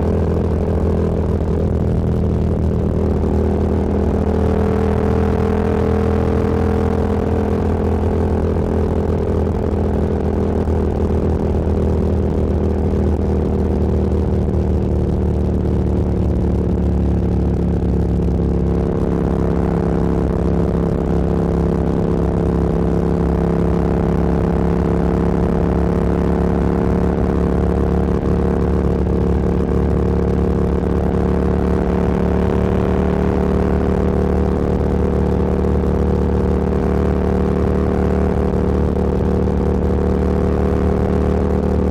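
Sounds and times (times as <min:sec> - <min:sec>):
motorcycle engine cruising: 0:00.0 - 0:41.9
wind and road noise: 0:00.0 - 0:41.9.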